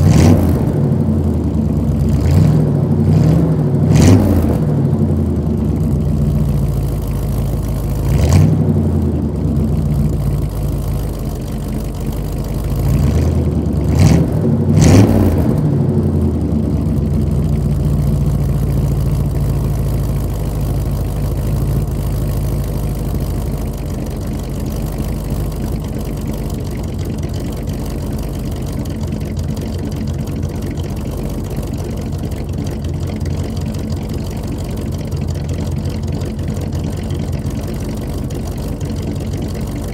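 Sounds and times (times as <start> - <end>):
pickup truck engine revving and idling: 0.0 - 39.9.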